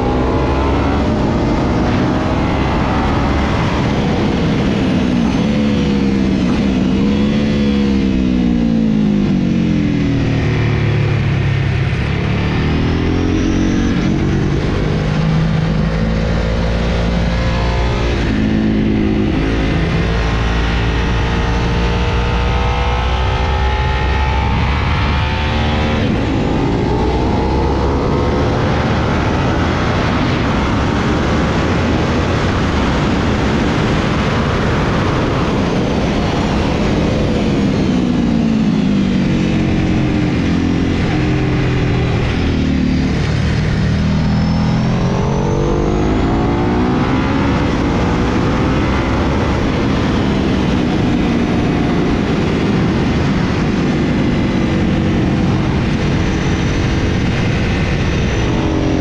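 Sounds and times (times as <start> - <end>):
motorcycle engine: 0.0 - 59.0
wind rush: 0.0 - 59.0.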